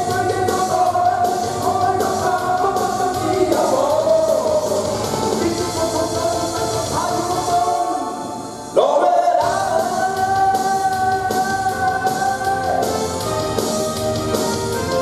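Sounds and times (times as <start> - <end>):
rock band playing: 0.0 - 7.6, 9.4 - 15.0.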